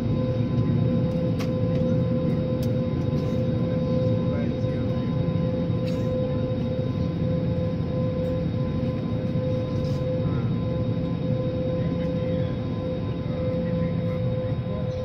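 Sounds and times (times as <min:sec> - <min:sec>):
jet engine high whine: 0:00.0 - 0:15.0
jet engines low rumble: 0:00.0 - 0:15.0.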